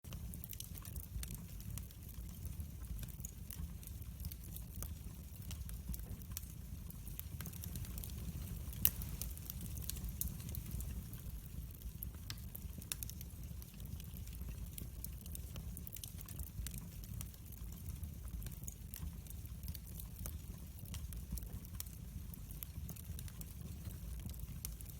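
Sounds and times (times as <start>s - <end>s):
fire pops and snaps: 0.1s - 24.9s
wood fire crackling: 0.1s - 24.9s.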